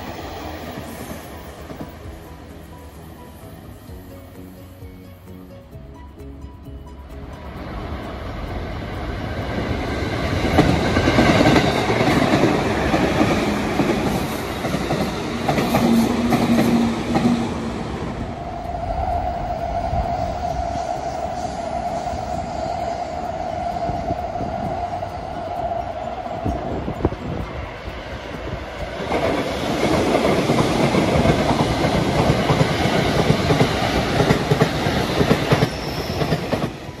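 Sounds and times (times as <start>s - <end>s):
train rolling on rails: 0.0s - 37.0s.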